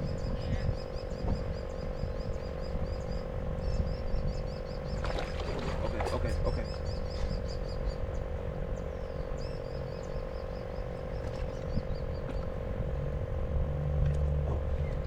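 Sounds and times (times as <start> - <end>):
bird chirping: 0.0 - 12.6
wind rumble on microphone: 0.0 - 15.0.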